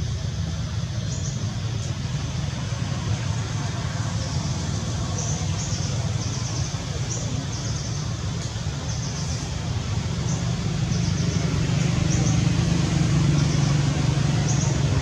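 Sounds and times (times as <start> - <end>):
motor vehicle running: 0.0 - 15.0.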